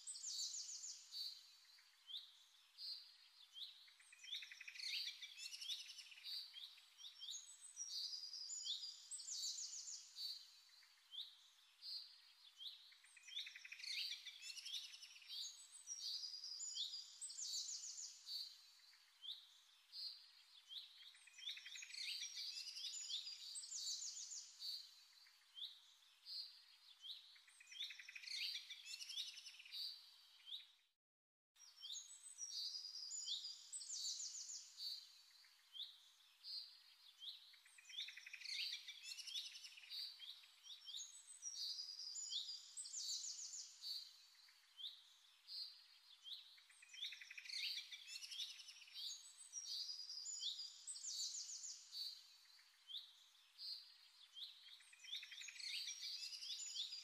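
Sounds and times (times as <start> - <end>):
songbirds chirping and trilling: 0.0 - 30.9, 31.6 - 57.0.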